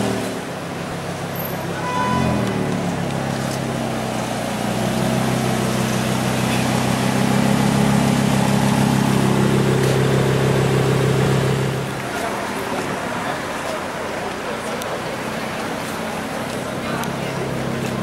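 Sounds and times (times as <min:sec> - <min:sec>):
car engine idling: 0:02.4 - 0:18.0.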